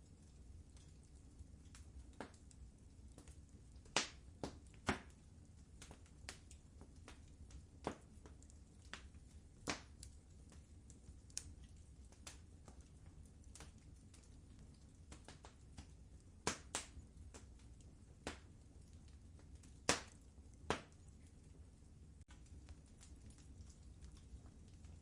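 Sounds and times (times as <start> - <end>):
low rumble of burning logs: 0.0 - 25.0
wood fire crackling and popping: 0.0 - 25.0.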